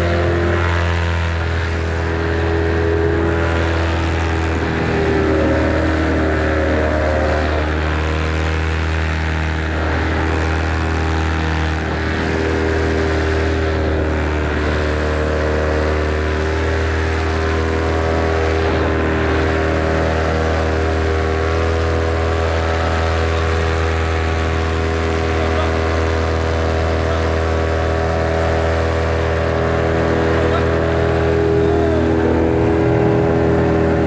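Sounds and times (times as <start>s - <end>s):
paramotor engine and propeller running: 0.0s - 34.0s.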